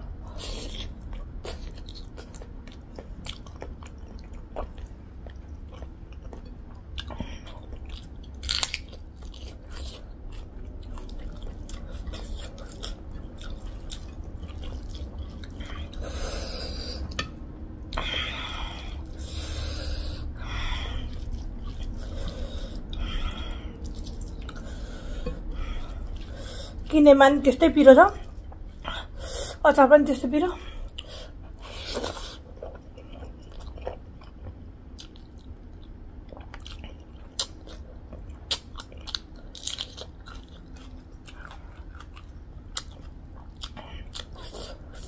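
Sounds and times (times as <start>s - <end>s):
chewing and smacking: 0.2s - 19.4s, 20.0s - 26.9s, 30.9s - 45.0s.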